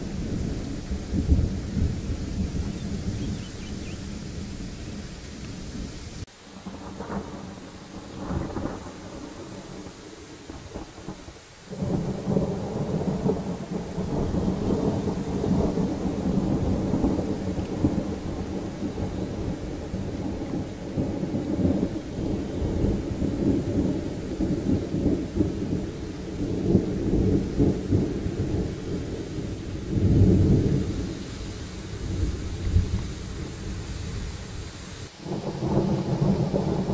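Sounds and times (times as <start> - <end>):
rolling thunder rumble: 0.0 - 36.9.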